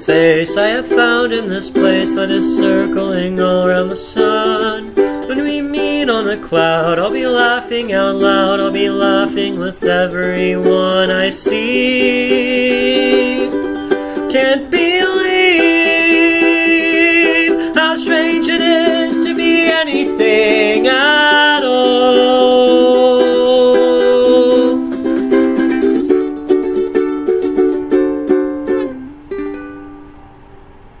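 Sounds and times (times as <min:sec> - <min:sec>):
person singing: 0:00.0 - 0:29.6
strummed acoustic string instrument: 0:00.0 - 0:31.0.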